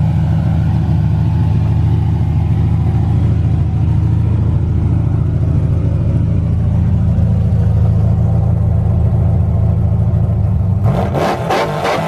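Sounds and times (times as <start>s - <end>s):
truck engine idling: 0.0s - 10.9s.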